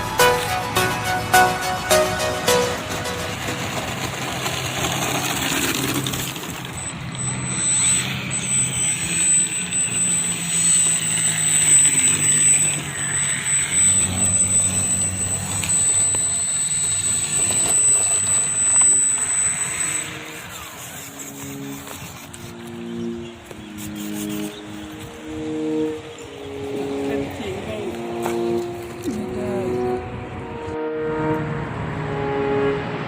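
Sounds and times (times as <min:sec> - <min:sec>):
model airplane propeller drone: 0:00.0 - 0:33.0
thin high whine: 0:00.0 - 0:33.0.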